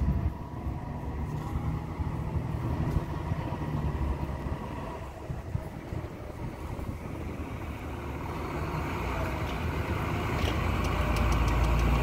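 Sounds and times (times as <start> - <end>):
street traffic engines rumbling: 0.0 - 12.0.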